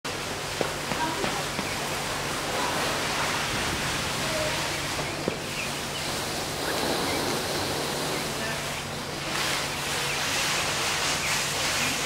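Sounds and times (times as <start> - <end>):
rushing outdoor ambience: 0.1 - 12.0.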